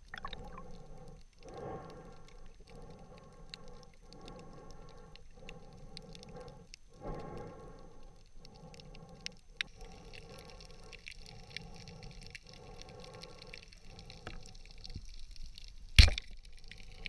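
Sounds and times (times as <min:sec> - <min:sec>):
muffled underwater water rush: 0:00.0 - 0:17.0.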